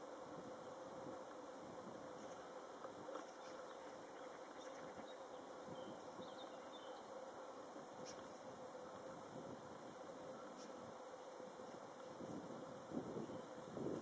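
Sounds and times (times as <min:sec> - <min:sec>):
low buzzing hum: 0:00.0 - 0:14.0.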